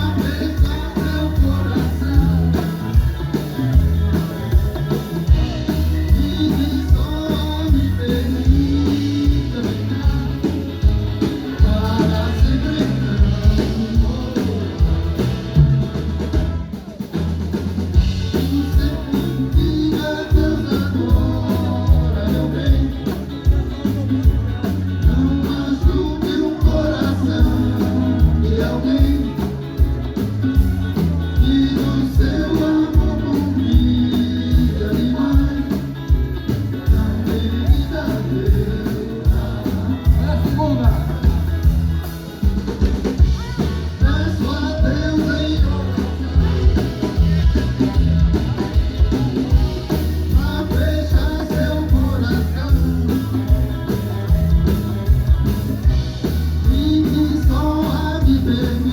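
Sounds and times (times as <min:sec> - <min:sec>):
live rock band playing: 0:00.0 - 0:58.9
person singing: 0:00.0 - 0:58.9.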